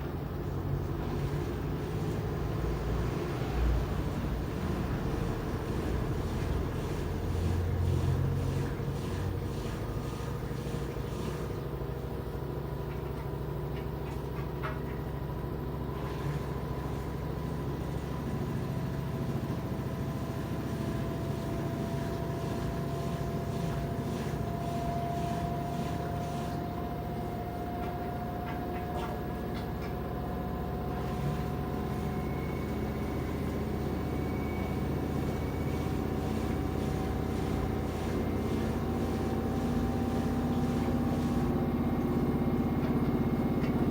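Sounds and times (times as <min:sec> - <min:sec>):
washing machine spin cycle whine: 0:00.0 - 0:43.9.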